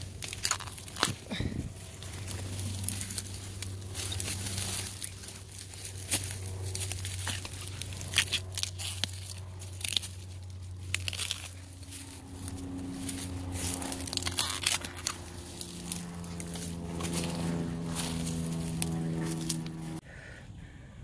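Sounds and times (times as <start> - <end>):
dry leaves crackling and crunching: 0.0 - 20.0
steady low hum: 0.0 - 21.0.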